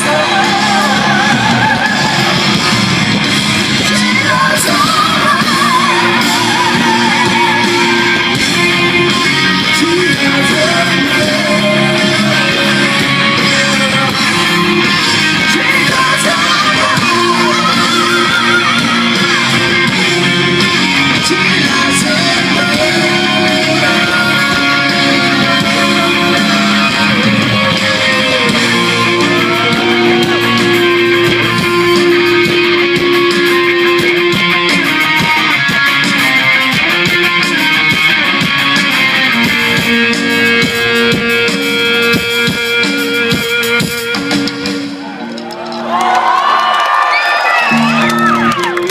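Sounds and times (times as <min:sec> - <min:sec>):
electric guitar lead: 0:00.0 - 0:48.9
rock band playing live: 0:00.0 - 0:48.9.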